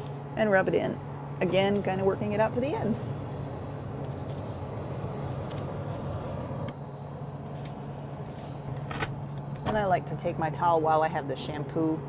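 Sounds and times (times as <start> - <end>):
cabin ventilation hum: 0.0 - 12.0.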